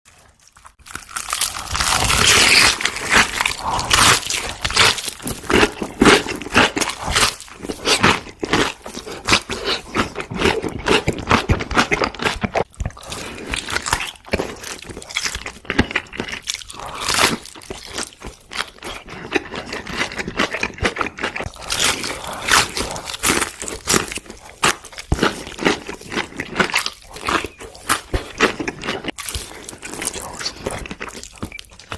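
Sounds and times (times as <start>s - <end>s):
crunchy food chewing: 0.1s - 31.9s.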